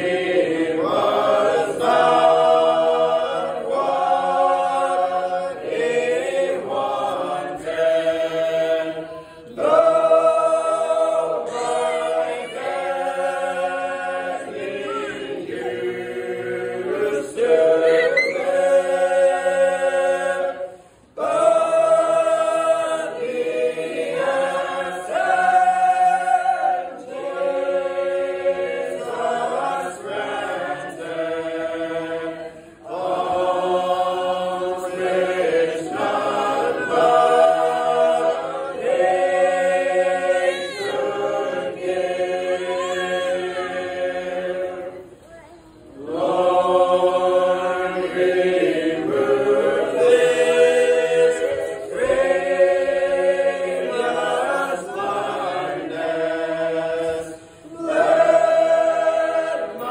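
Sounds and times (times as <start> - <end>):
choir singing unaccompanied harmony: 0.0 - 59.9.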